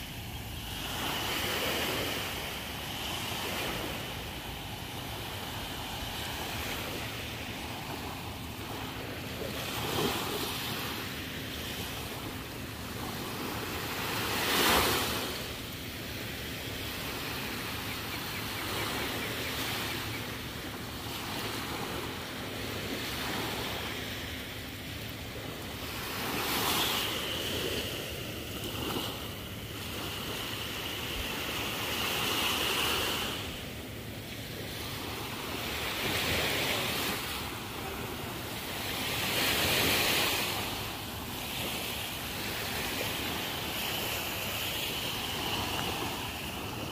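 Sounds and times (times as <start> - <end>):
waves lapping on sandy shore: 0.0 - 46.9.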